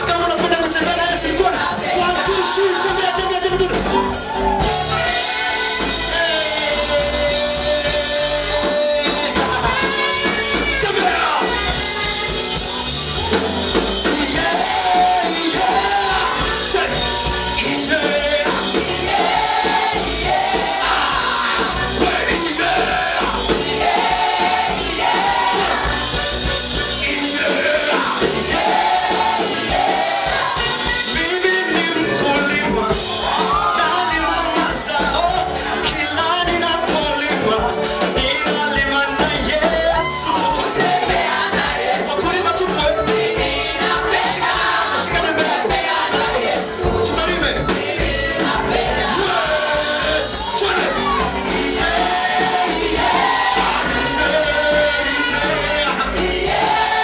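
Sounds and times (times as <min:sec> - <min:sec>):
band with drums and bass: 0:00.0 - 0:57.0
voices singing: 0:00.0 - 0:57.0.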